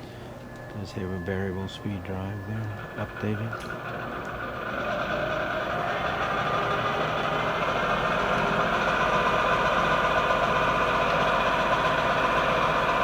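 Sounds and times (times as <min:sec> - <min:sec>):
lathe whining: 0:00.0 - 0:13.0.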